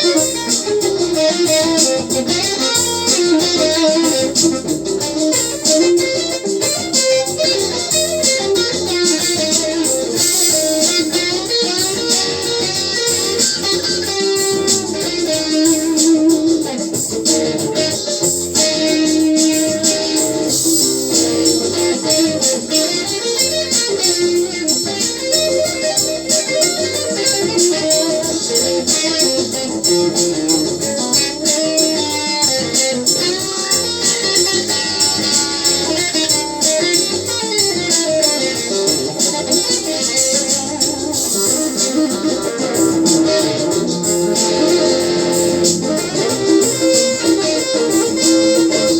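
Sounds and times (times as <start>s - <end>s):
plucked guitar-like melody: 0.0s - 48.9s
steady beat: 0.0s - 48.9s.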